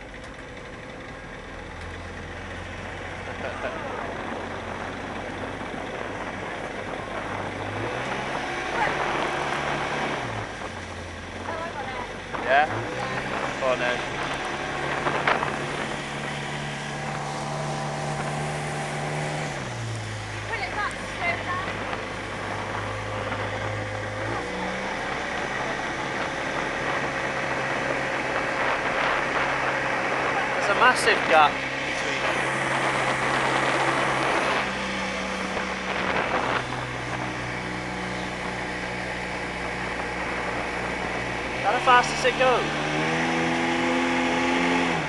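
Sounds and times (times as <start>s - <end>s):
speedboat motor running: 0.0s - 45.0s
wind: 0.0s - 45.0s.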